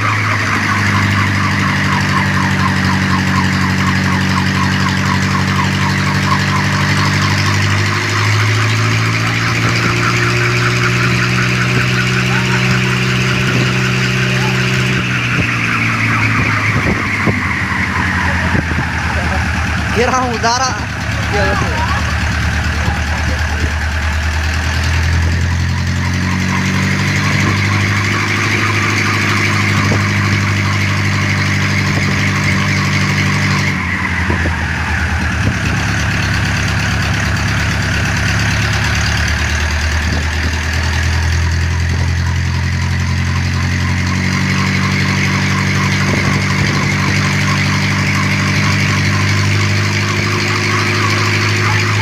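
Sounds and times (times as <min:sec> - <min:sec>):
helicopter engine revving: 0:00.0 - 0:52.0.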